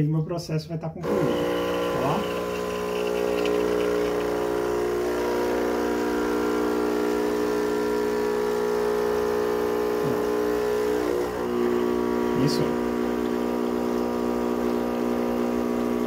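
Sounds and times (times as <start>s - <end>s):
espresso machine pump humming: 1.0s - 16.0s.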